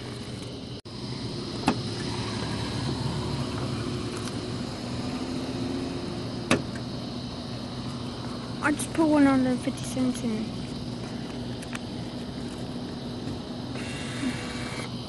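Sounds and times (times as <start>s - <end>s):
vending machine motor hum: 0.0s - 15.0s.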